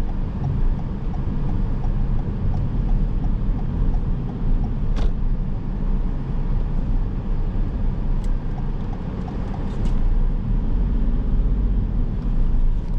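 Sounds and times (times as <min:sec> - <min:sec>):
car engine and tyre rumble: 0:00.0 - 0:12.9.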